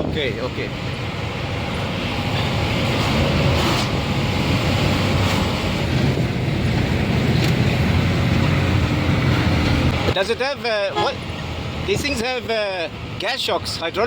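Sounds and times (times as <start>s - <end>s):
diesel truck engine rumble: 0.0s - 14.0s
road and wind noise: 0.0s - 14.0s.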